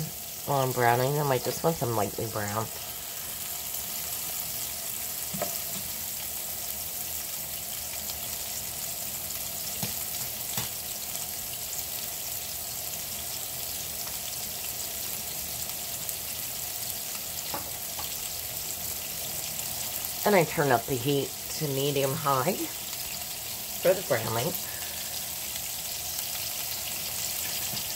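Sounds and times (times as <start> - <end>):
meatballs sizzling in oil: 0.0 - 27.9.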